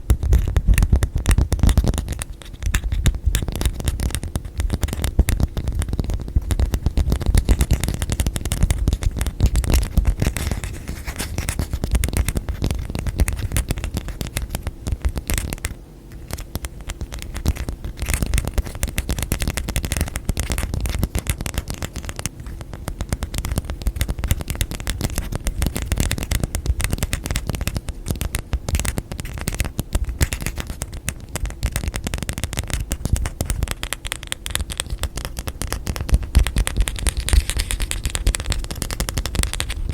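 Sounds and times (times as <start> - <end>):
hand tapping and scratching objects: 0.0 - 39.9.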